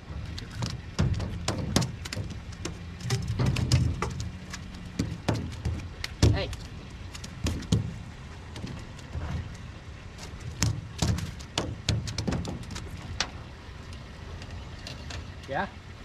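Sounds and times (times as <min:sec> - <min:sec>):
knocks and thuds on boat deck: 0:00.0 - 0:13.4.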